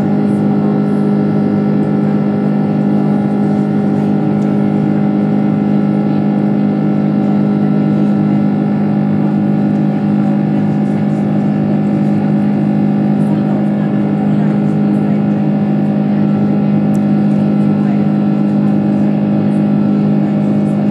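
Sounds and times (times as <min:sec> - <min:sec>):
jet engine drone in cabin: 0:00.0 - 0:20.9.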